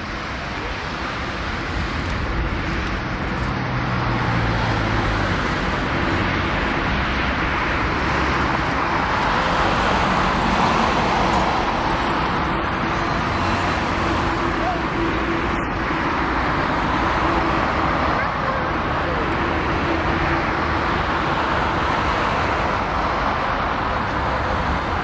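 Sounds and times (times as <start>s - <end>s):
jet engines roaring at takeoff: 0.0s - 25.0s.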